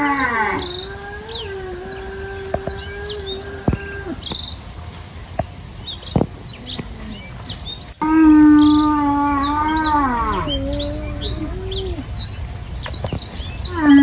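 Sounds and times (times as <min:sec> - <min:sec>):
farm animal calling: 0:00.0 - 0:04.8, 0:06.0 - 0:14.0
small birds chirping: 0:00.0 - 0:14.0.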